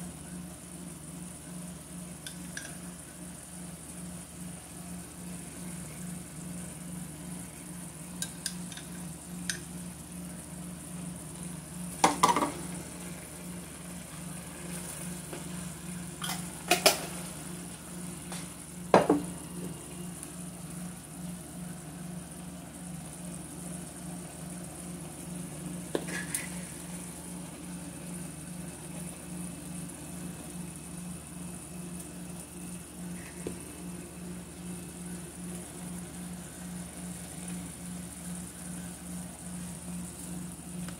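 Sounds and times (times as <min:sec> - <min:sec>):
stew sizzling in frying pan: 0:02.2 - 0:40.9.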